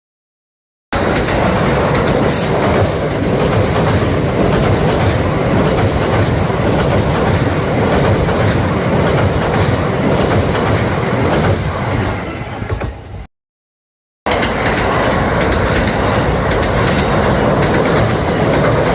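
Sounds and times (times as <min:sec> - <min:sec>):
electric train passing: 0:01.0 - 0:13.2, 0:14.3 - 0:18.9
wheels clacking over rail joints: 0:01.0 - 0:13.2, 0:14.3 - 0:18.9.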